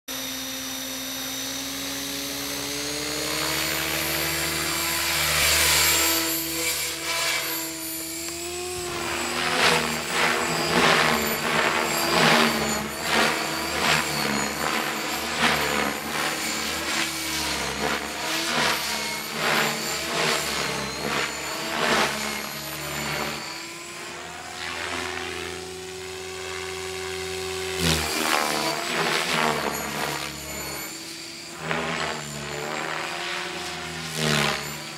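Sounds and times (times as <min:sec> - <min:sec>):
electric rc helicopter whine: 0:00.0 - 0:34.9
pulsing rotor surges: 0:00.1 - 0:34.9.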